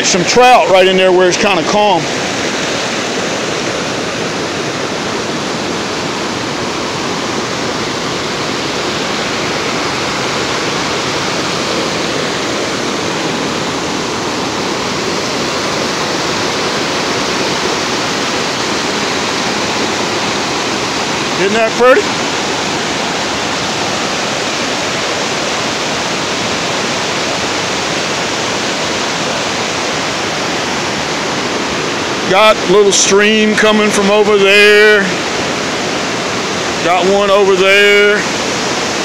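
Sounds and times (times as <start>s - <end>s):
river water rushing over rocks: 0.0s - 39.0s.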